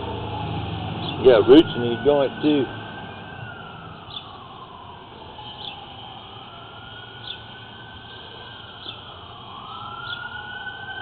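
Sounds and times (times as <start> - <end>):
siren-like wailing tone: 0.0 - 11.0.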